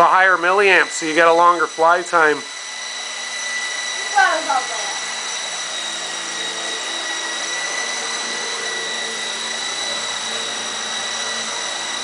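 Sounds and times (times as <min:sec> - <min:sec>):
electric motors whining: 0:00.0 - 0:12.0
rotor hum: 0:00.0 - 0:12.0.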